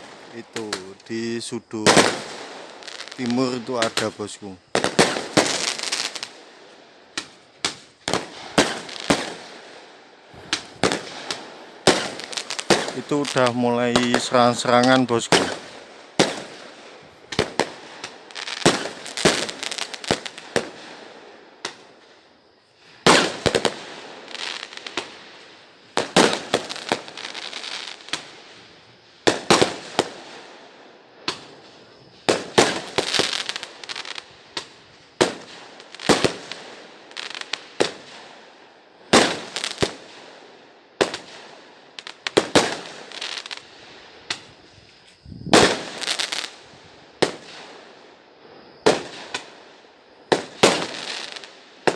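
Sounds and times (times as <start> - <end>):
fireworks exploding with crackling: 0.0 - 51.9.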